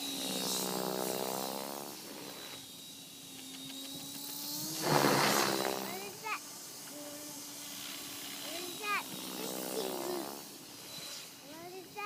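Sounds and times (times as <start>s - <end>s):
rc helicopter buzzing hum: 0.0s - 12.0s
thin high whine: 0.0s - 12.0s.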